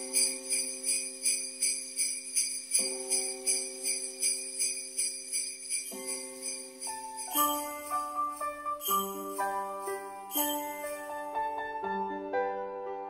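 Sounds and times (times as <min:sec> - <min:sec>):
jingle bells shaken: 0:00.0 - 0:11.7.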